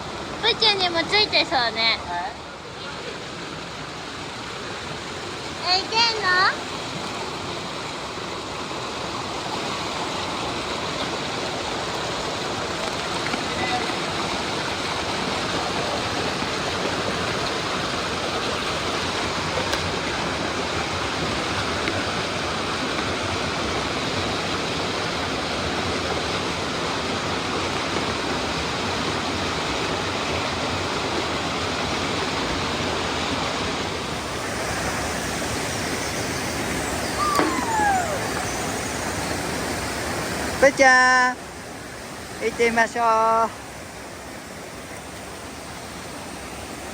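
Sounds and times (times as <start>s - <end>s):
stream water pouring over rocks: 2.6s - 46.9s.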